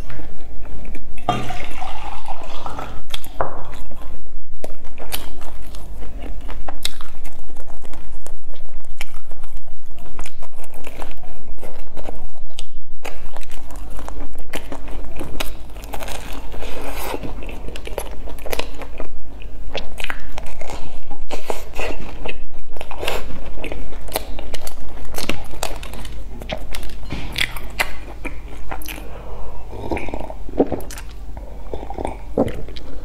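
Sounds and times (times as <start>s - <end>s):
crunchy biting and chewing: 0.0s - 33.0s.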